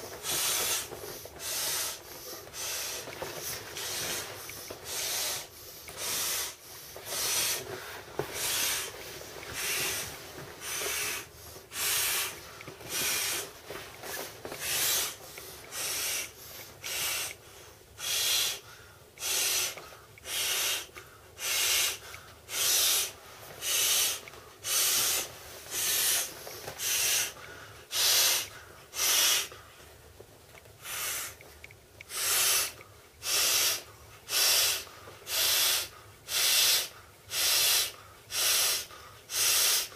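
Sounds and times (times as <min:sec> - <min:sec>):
breaths blowing into inflatable: 0:00.0 - 0:17.4, 0:19.2 - 0:29.6, 0:32.1 - 0:39.9.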